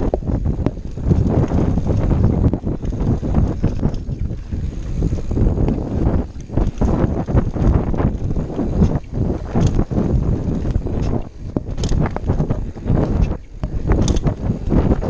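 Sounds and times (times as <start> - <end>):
bike rattles and knocks: 0.0 - 15.0
tyre noise on dirt: 0.0 - 15.0
wind buffeting microphone: 0.0 - 15.0.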